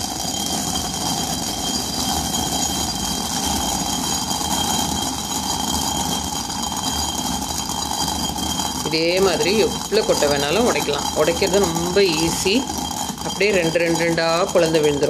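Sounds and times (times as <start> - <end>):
stone quern grinding: 0.0 - 15.0.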